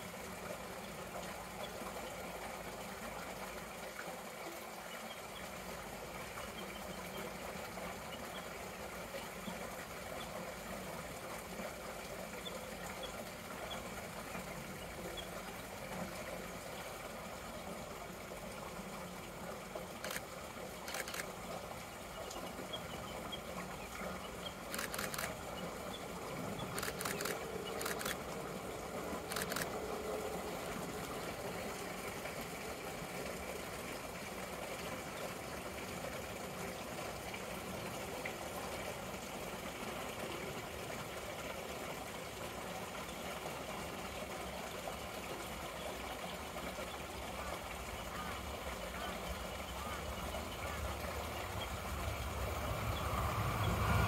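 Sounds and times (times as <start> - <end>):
outdoor background noise: 0.0 - 54.0.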